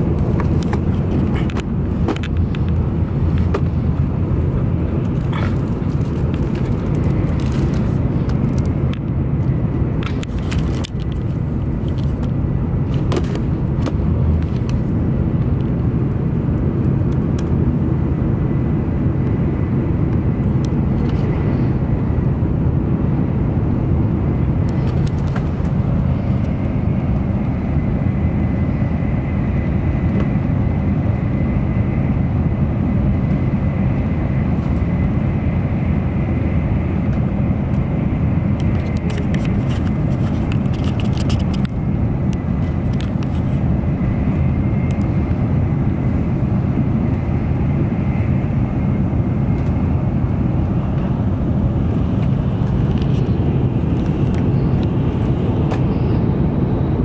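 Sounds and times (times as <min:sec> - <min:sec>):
train wheels and rushing air: 0:00.0 - 0:57.0.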